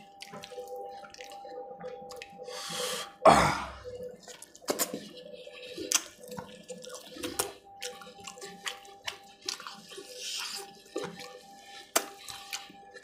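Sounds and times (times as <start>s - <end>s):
wet chewing and lip-smacking: 0.0s - 2.8s, 4.0s - 13.0s.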